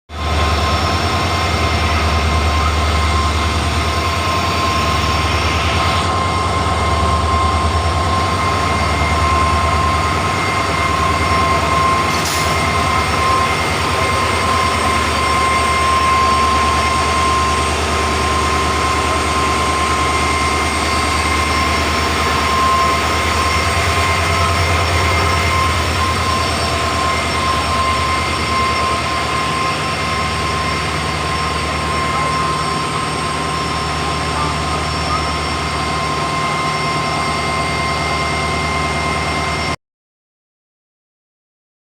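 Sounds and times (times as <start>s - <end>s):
diesel locomotive engines humming: 0.1s - 39.8s
high whine: 0.1s - 39.8s.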